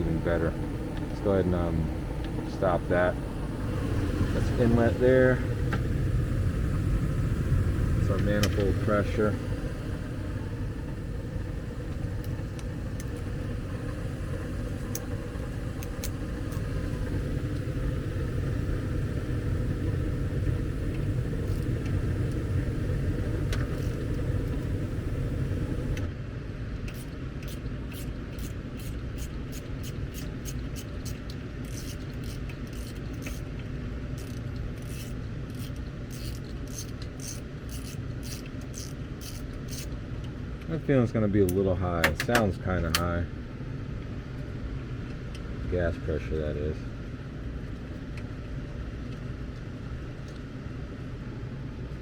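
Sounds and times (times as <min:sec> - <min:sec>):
gas furnace rumble and hum: 0:00.0 - 0:52.0.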